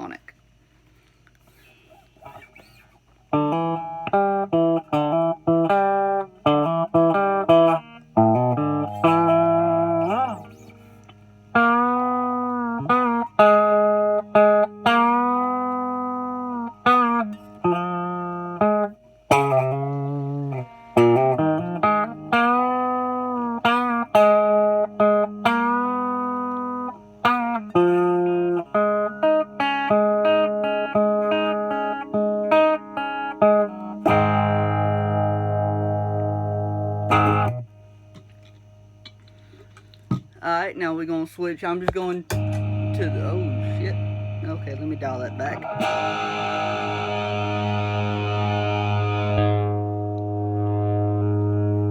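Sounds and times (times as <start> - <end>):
clean electric guitar notes: 2.3 - 39.5, 41.9 - 51.9.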